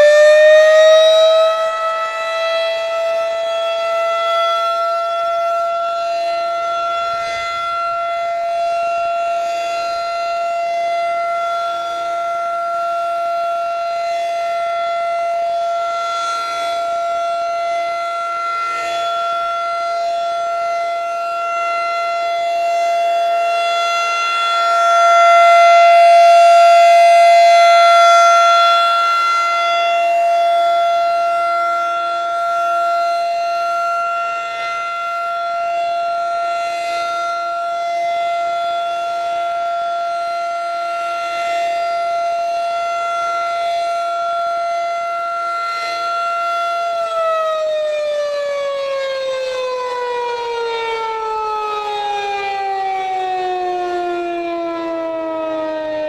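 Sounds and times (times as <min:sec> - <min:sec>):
warning siren steady tone: 0:00.0 - 0:56.0.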